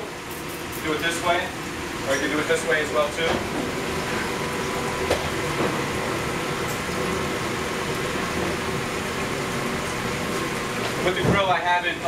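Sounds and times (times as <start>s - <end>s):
exhaust hood fan rushing: 0.0s - 12.0s.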